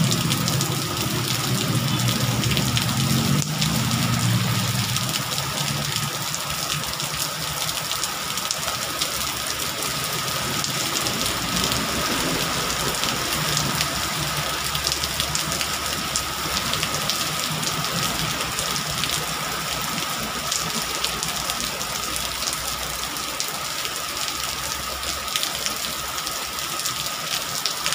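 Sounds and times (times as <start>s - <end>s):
passing traffic rumble: 0.0s - 27.0s
heavy rain on pavement: 0.0s - 27.9s.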